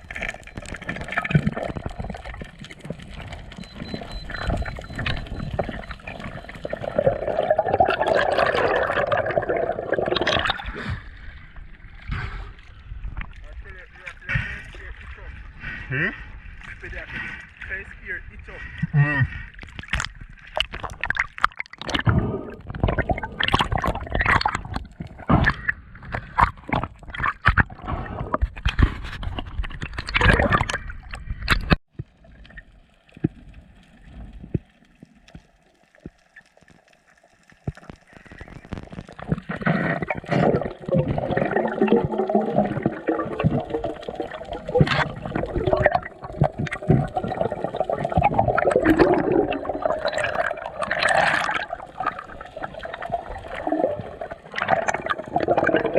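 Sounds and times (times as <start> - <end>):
water bubbling and gurgling: 0.0 - 55.9
water sloshing and splashing: 0.0 - 55.9.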